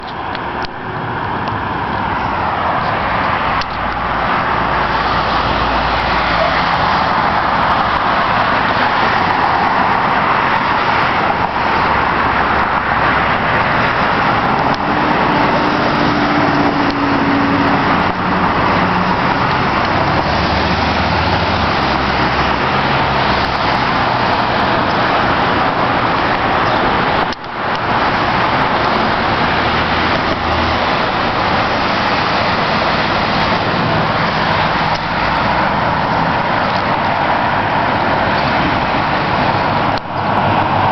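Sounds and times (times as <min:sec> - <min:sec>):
cars passing: 0:00.0 - 0:40.9.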